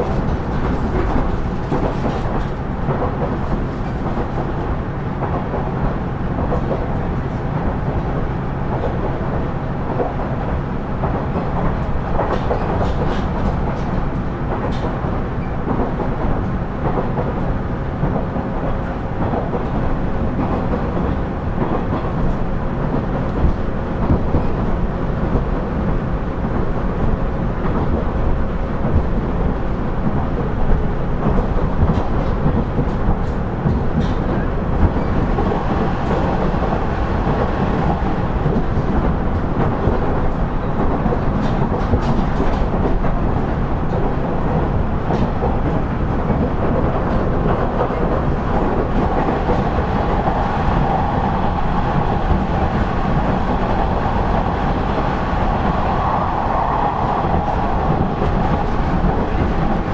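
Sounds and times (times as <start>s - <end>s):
wheel-on-rail rumble: 0.0s - 59.9s.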